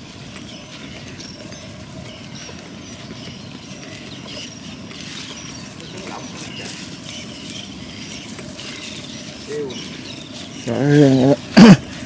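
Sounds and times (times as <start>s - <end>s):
small animals chirping: 0.4s - 12.0s.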